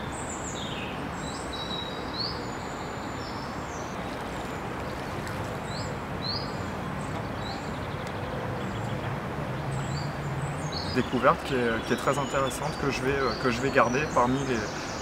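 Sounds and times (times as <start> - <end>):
outdoor background rush: 0.0 - 15.0
small birds chirping: 0.0 - 15.0.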